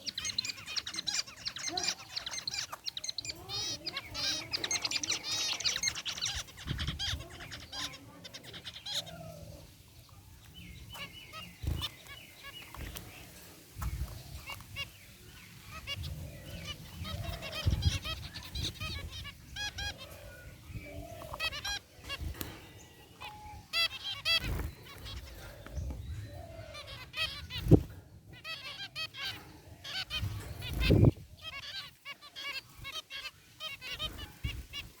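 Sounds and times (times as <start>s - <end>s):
finches calling: 0.0s - 35.0s.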